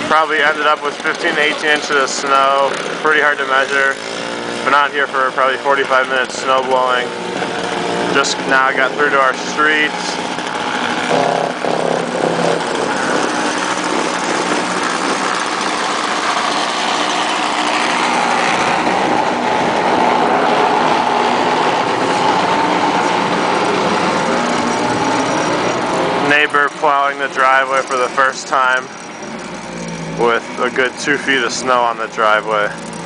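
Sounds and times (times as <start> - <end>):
snowblower engine running: 0.0 - 33.0.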